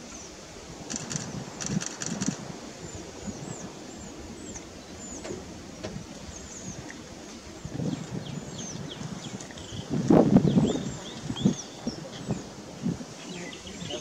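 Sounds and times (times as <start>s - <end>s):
birds chirping: 0.1s - 7.0s, 7.6s - 14.0s.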